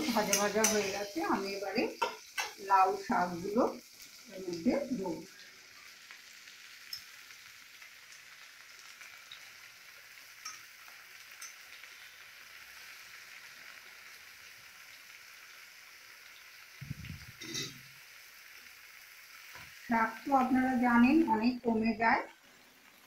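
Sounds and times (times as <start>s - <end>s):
oil sizzling in a pan: 0.0s - 23.0s.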